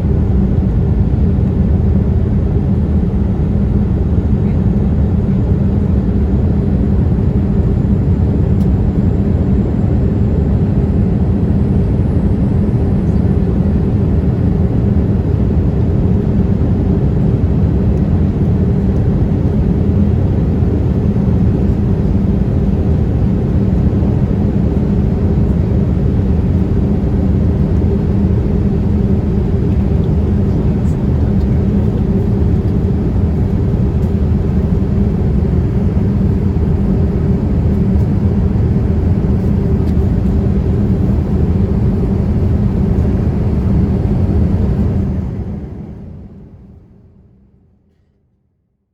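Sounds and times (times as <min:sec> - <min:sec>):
low engine drone: 0:00.0 - 0:47.3.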